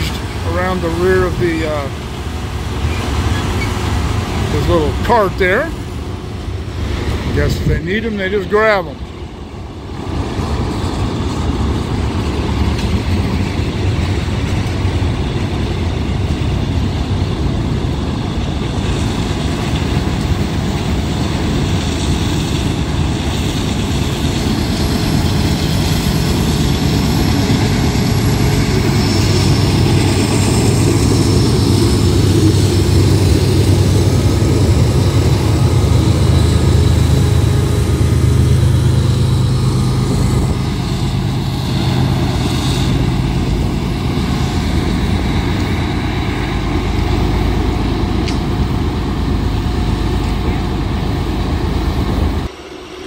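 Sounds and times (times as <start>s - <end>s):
diesel locomotive drone: 0.0s - 53.0s
freight cars rumbling on rails: 0.0s - 53.0s.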